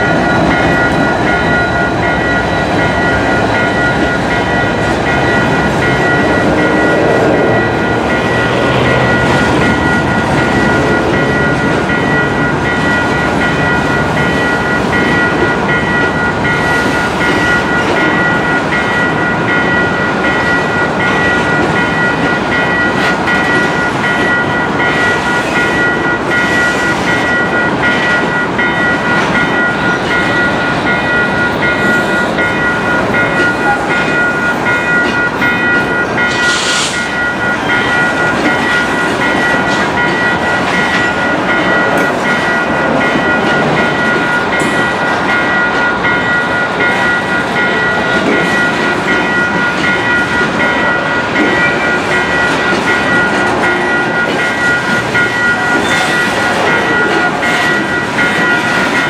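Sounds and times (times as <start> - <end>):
crossing signal bell ringing: 0.0 - 59.0
diesel locomotive engine: 0.0 - 59.0
train wheels on rails: 0.0 - 59.0.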